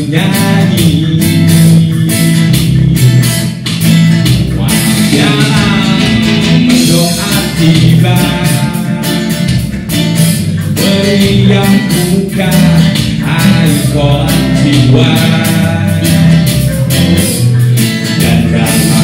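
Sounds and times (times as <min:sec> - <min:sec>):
man singing into a microphone: 0:00.0 - 0:03.3, 0:04.4 - 0:09.6, 0:10.6 - 0:19.0
drums: 0:00.0 - 0:19.0
strummed acoustic guitar: 0:00.0 - 0:19.0.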